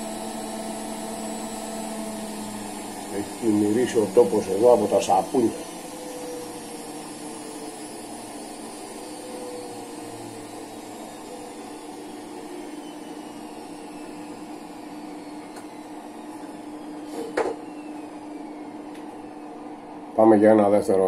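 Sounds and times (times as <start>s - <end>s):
small motor humming: 0.0s - 20.6s.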